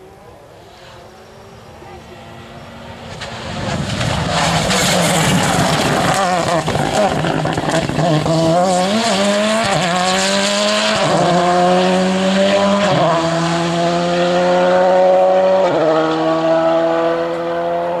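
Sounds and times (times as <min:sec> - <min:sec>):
rally car engine accelerating: 0:00.6 - 0:18.0.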